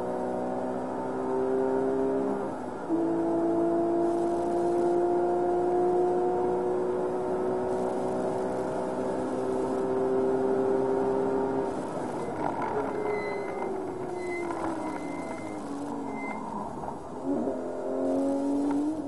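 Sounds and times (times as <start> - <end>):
car engine at full throttle: 0.0 - 19.0.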